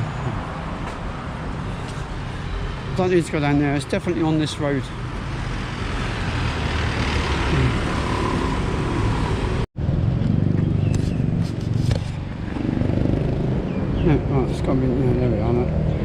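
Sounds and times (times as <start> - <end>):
vehicles passing on road: 0.0 - 16.0.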